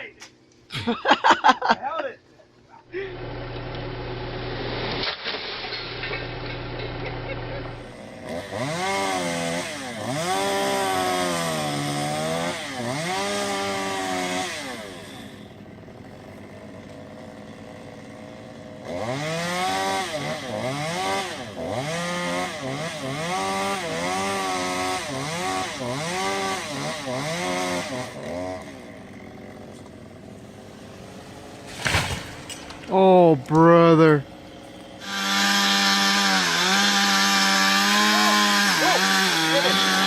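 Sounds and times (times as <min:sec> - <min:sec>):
chainsaw engine revving: 0:03.0 - 0:40.0.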